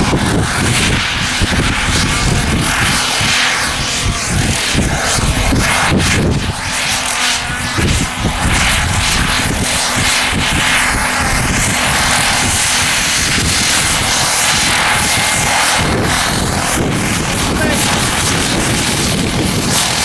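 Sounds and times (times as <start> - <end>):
model helicopter whining: 0.0 - 20.0.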